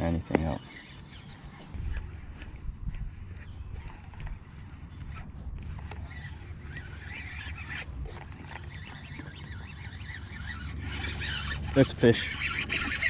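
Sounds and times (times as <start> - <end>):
birds chirping and calling: 0.0 - 13.0
low steady rumble: 0.8 - 13.0.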